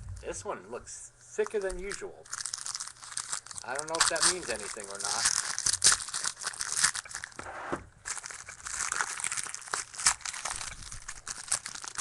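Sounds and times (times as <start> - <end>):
wrapper tearing and crinkling: 1.4 - 7.4, 8.0 - 12.0.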